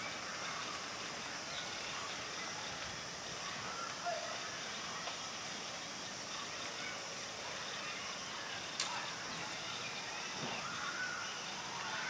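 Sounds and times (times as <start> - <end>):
faint distant calls: 0.0 - 12.0
steady outdoor hiss: 0.0 - 12.0.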